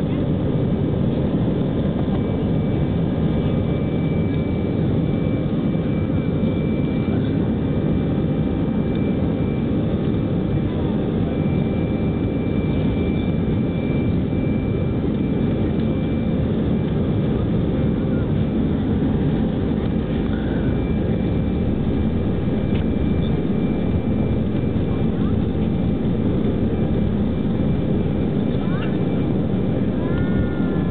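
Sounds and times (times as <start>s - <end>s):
high engine whine: 0.0s - 30.9s
jet engine and runway rush: 0.0s - 30.9s.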